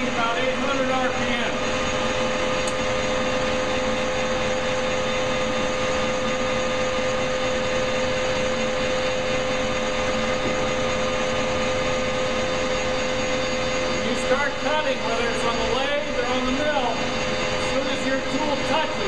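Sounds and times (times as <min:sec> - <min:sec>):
metal lathe droning and whining: 0:00.0 - 0:19.0.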